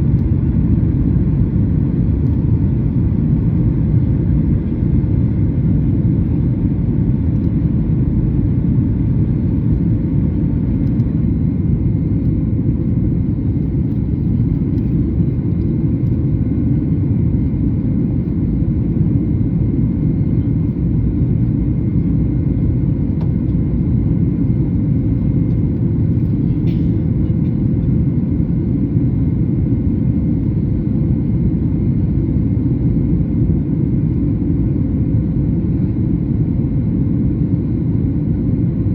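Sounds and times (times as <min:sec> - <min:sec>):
airliner cabin rumble: 0:00.0 - 0:38.9
faint steady hum: 0:00.0 - 0:38.9.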